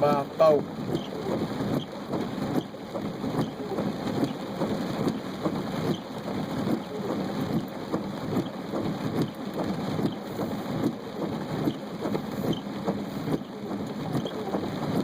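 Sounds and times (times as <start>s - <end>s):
rain pattering on a car: 0.0s - 15.0s.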